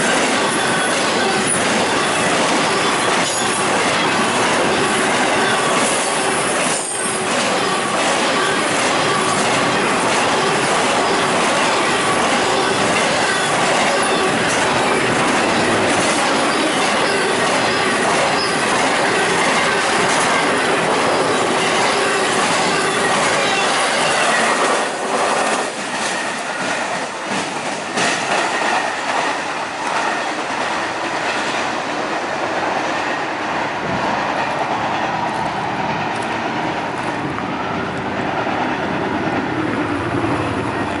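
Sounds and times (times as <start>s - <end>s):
freight train rolling on rails: 0.0s - 41.0s.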